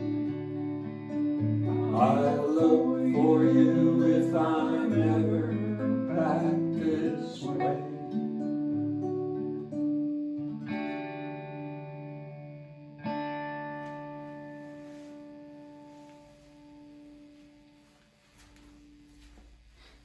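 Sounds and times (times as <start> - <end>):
guitar strumming chords: 0.0 - 19.4.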